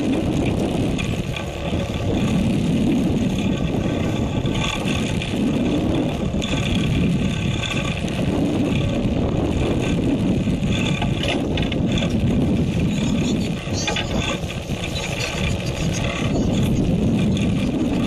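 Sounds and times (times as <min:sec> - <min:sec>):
boat engine rumbling: 0:00.0 - 0:18.0
wind: 0:00.0 - 0:18.0.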